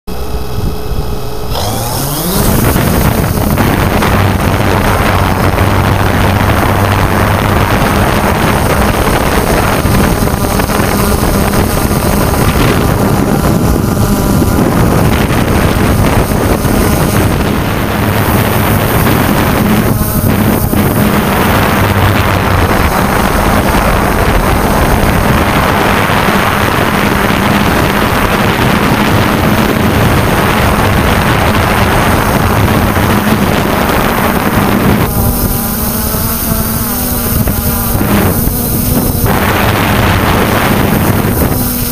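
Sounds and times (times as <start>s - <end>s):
drone motors whining: 0.1s - 41.9s
wind rushing on microphone: 0.1s - 41.9s.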